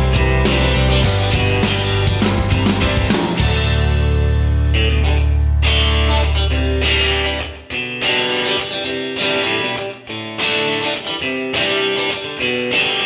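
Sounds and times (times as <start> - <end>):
guitar instrumental music: 0.0 - 13.0.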